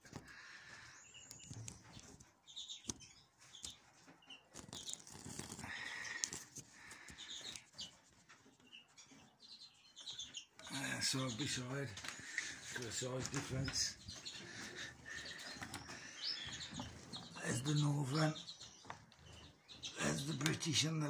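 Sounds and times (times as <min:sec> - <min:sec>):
finches chirping softly: 0:00.0 - 0:21.0.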